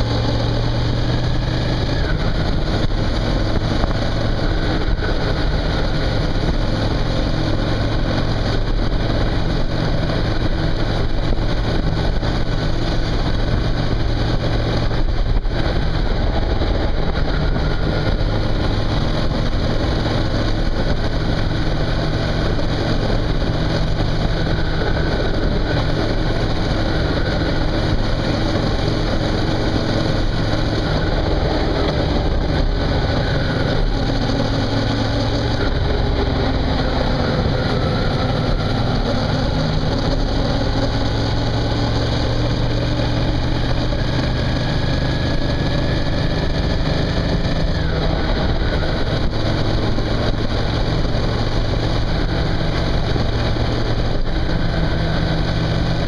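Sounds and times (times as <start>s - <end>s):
motorcycle engine running: 0.0s - 56.0s
wind and road noise hiss: 0.0s - 56.0s.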